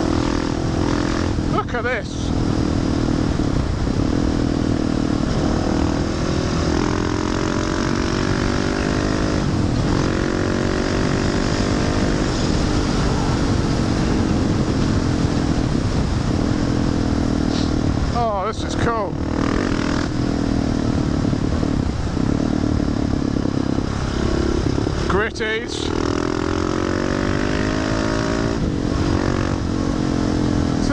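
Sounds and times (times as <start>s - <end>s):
motorcycle engine revving: 0.0s - 30.9s
wind on microphone: 0.0s - 30.9s.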